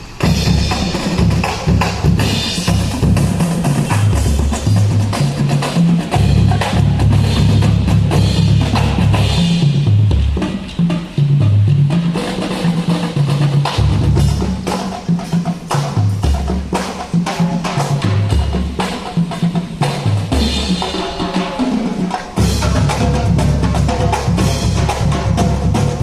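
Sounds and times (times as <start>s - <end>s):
drums and percussion: 0.0s - 26.0s
marching band playing: 0.0s - 26.0s.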